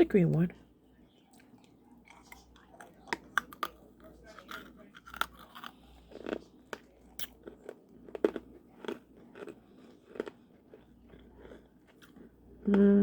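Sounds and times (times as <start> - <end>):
candy crunching while chewed: 1.4 - 12.7.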